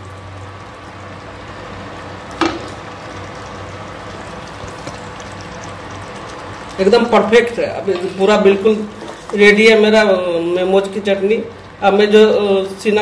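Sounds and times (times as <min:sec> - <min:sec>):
chutney sizzling in a pan: 0:00.0 - 0:10.6.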